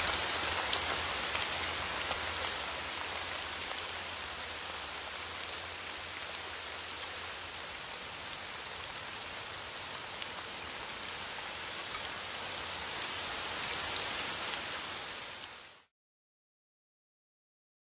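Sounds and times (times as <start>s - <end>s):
rain falling: 0.0s - 15.9s.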